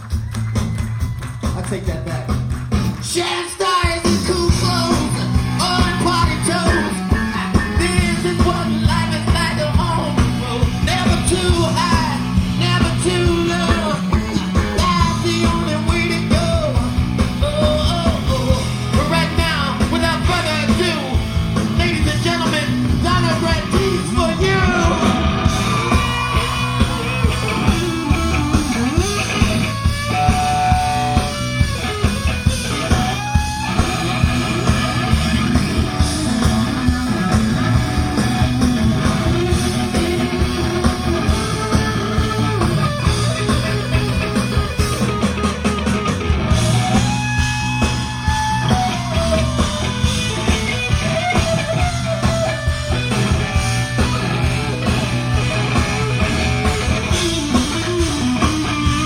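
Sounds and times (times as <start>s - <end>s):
bass guitar: 0.0s - 59.0s
drums: 0.0s - 59.0s
electric guitar bending notes: 4.0s - 59.0s.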